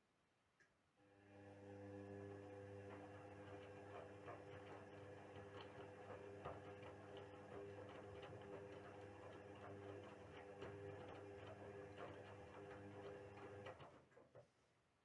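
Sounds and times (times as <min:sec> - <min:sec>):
washing machine motor hum: 0:01.2 - 0:14.2.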